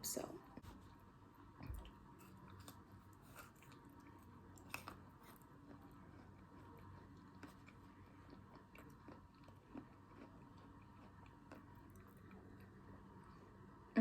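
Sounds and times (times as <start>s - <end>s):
chewing with soft crunches: 0.4s - 13.8s.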